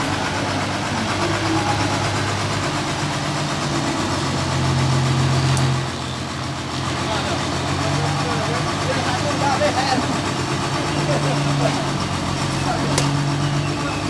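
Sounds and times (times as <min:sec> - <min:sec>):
forklift diesel engine running: 0:00.0 - 0:14.0.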